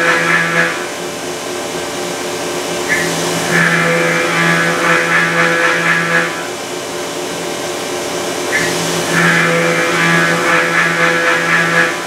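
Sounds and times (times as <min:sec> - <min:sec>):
milling machine cutter whine: 0:00.0 - 0:12.0.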